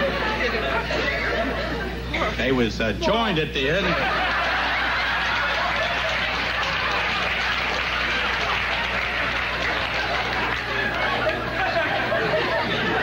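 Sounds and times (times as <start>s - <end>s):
audience laughing: 0.0s - 2.4s, 3.6s - 13.0s.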